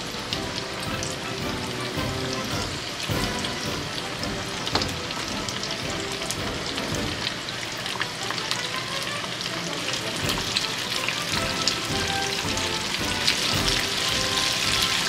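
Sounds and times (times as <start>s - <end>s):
background music: 0.0s - 15.0s
chicken deep-frying in oil: 0.0s - 15.0s.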